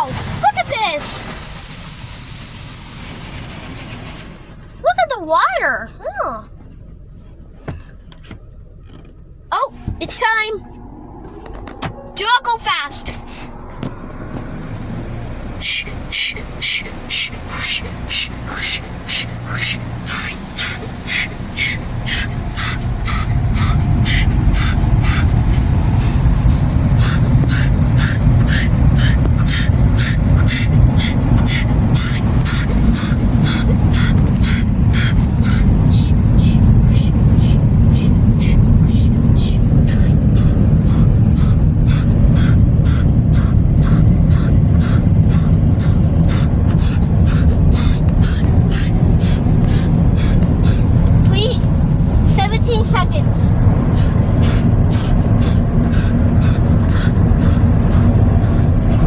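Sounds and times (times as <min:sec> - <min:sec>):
car wash dryer blowers: 0:00.0 - 0:59.0
regular ticking: 0:03.5 - 0:59.0.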